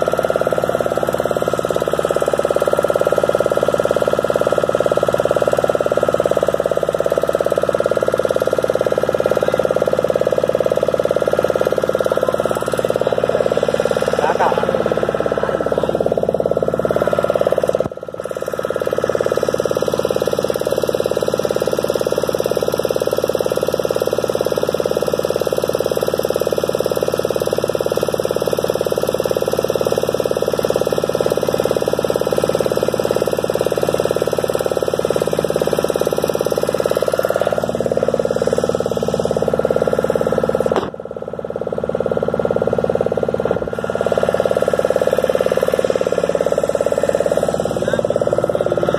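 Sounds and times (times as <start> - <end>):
boat motor humming: 0.0 - 48.9.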